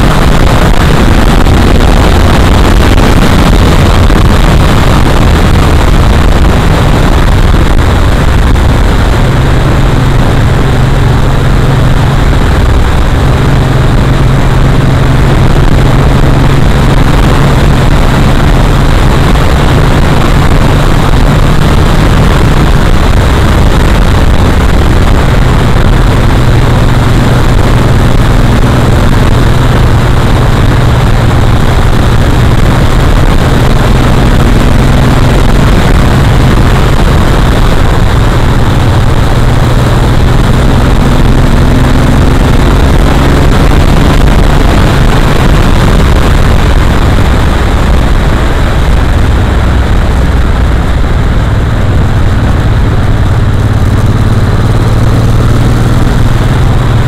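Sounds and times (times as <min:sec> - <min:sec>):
vehicle engine hum: 0:00.0 - 0:57.0
wind and road noise: 0:00.0 - 0:57.0.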